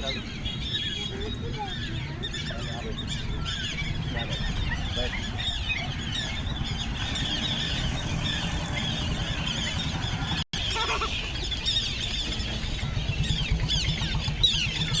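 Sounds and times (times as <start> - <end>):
flock of birds squealing: 0.0 - 15.0.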